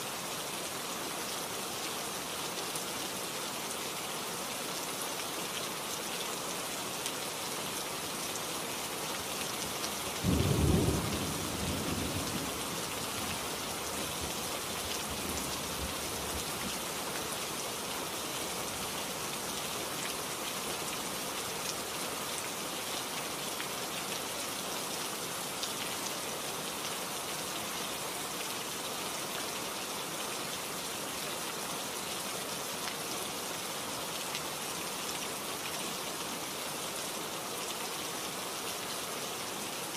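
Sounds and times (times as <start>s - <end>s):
steady hiss like rain: 0.0s - 39.9s.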